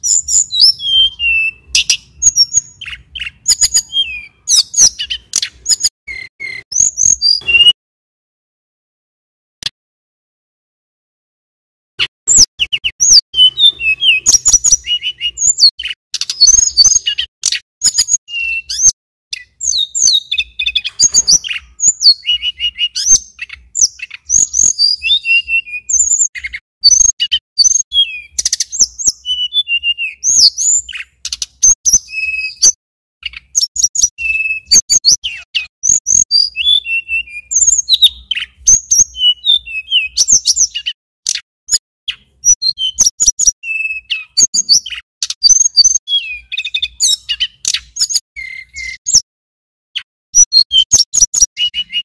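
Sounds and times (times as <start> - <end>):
bird singing chirps and trills: 0.0 - 7.8, 12.0 - 49.3, 50.0 - 52.0.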